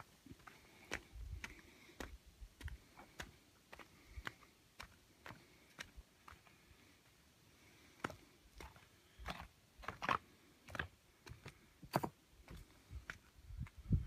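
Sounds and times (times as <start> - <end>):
footsteps on stone paving: 0.0 - 7.0, 7.8 - 13.9.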